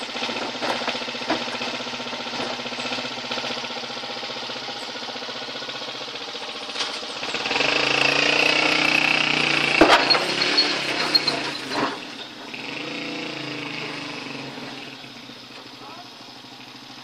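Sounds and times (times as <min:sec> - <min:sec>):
motorcycle engine with whine: 0:00.0 - 0:17.0.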